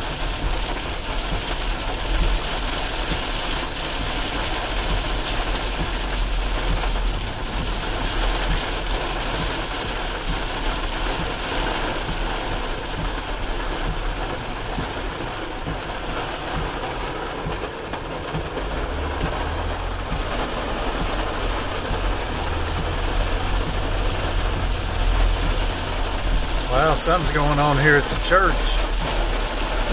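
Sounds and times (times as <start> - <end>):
engine and tyre hum: 0.0 - 29.9
heavy rain on car roof: 0.0 - 29.9.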